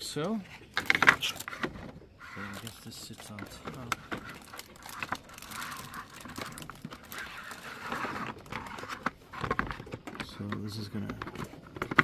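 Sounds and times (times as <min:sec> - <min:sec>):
rustling scraping: 0:00.3 - 0:12.0
plastic panels clicking and knocking: 0:00.7 - 0:12.0.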